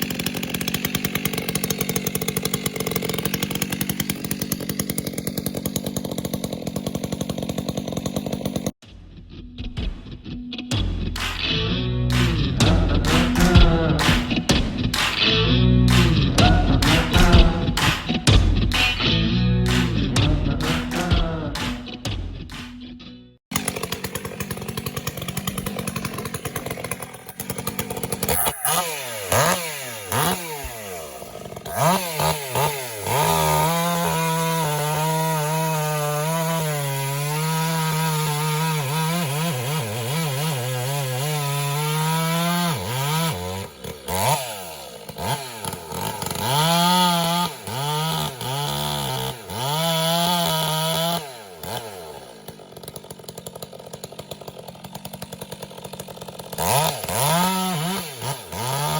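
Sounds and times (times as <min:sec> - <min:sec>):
chainsaw revving and cutting wood: 0:00.0 - 0:09.4, 0:10.7 - 0:58.9.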